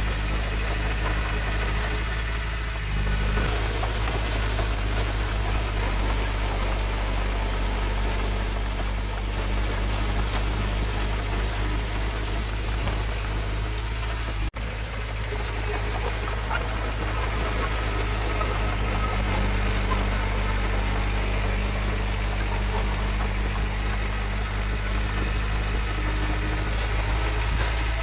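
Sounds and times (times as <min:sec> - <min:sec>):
diesel earthmover engine running: 0:00.0 - 0:28.0.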